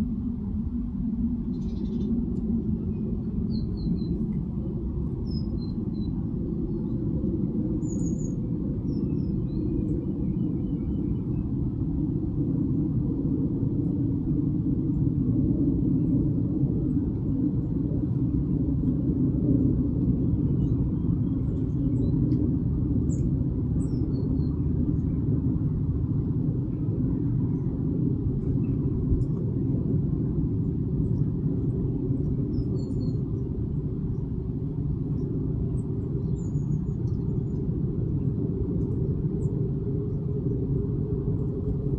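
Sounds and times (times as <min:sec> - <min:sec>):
low outdoor rumble: 0:00.0 - 0:41.9.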